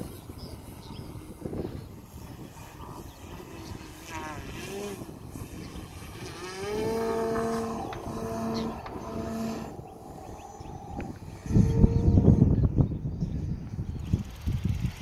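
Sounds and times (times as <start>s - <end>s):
electric motor and propeller whine: 0.0s - 15.0s
wind rumble on microphone: 0.0s - 15.0s.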